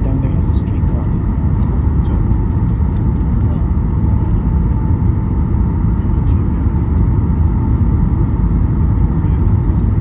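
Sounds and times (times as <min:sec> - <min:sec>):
jet engine low rumble: 0:00.0 - 0:10.0.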